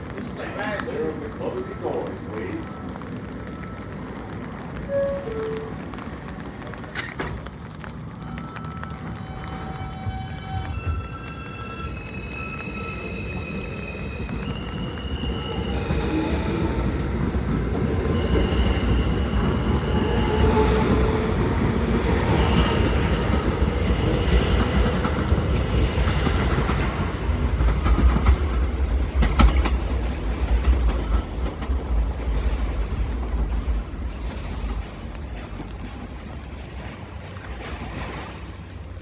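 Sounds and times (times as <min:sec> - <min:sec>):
subway train motors whining: 0:00.0 - 0:37.3.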